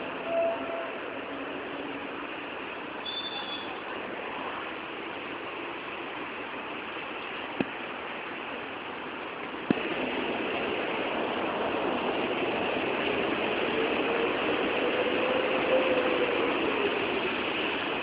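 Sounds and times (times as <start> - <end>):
train rattle and clatter: 0.0 - 18.0.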